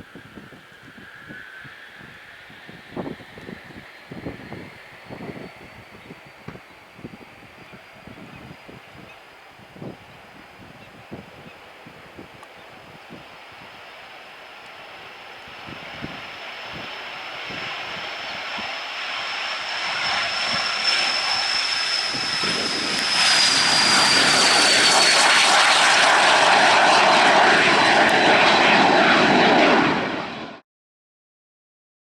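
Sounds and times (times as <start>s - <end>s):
jet engines whining and roaring: 0.0s - 30.6s.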